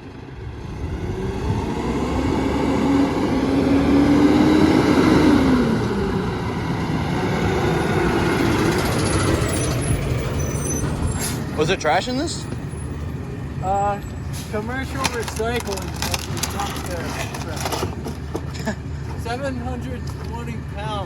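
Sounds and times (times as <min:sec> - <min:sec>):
truck engine revving: 0:00.1 - 0:20.8.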